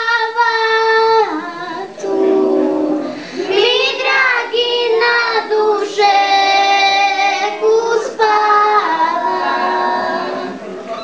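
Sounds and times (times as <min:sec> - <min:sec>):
girl singing into a microphone: 0:00.0 - 0:10.6
children singing along: 0:00.0 - 0:11.0.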